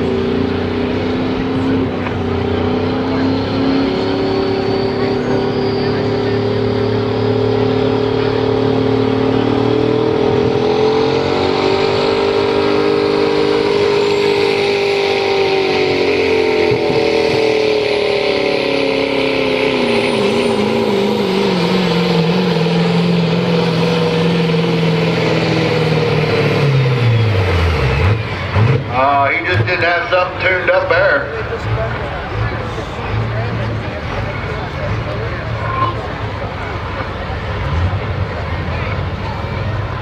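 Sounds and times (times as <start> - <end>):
diesel truck engine revving: 0.0 - 40.0.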